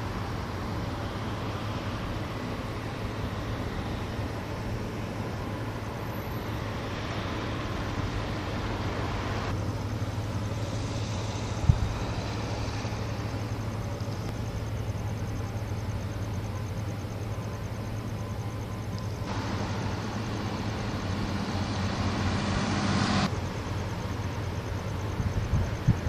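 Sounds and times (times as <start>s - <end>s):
road vehicle rumble: 0.0s - 26.0s.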